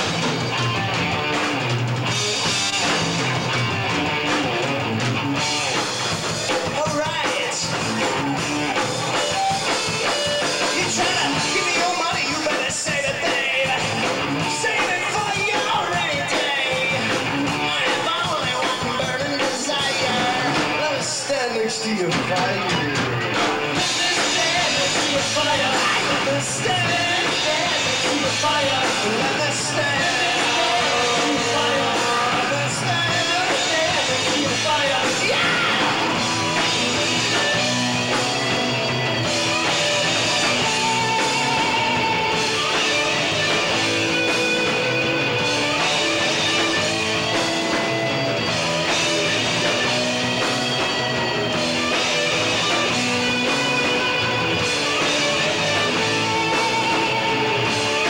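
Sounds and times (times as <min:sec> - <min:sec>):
bending lead guitar line: 0:00.0 - 0:58.0
live rock band playing: 0:00.0 - 0:58.0.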